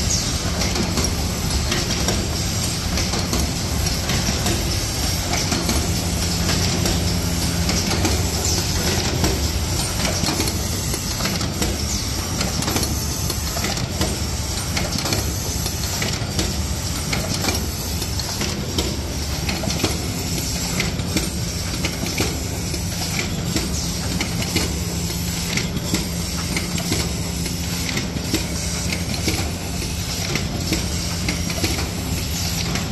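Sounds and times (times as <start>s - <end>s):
machine clattering: 0.1s - 32.9s.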